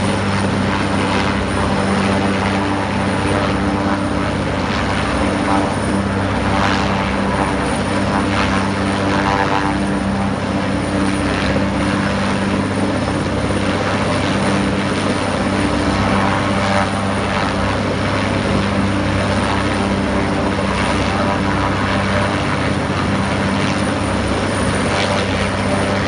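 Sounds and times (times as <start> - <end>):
helicopter rotor and engine drone: 0.0 - 26.0.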